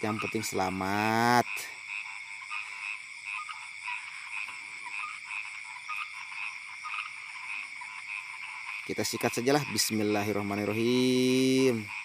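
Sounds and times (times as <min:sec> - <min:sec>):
frogs calling in chorus: 0:00.0 - 0:12.0.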